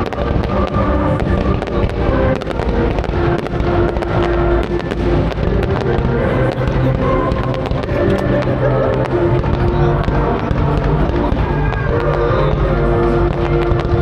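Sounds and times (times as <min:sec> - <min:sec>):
fireworks cracking and popping: 0:00.0 - 0:14.0
music playing: 0:00.0 - 0:14.0.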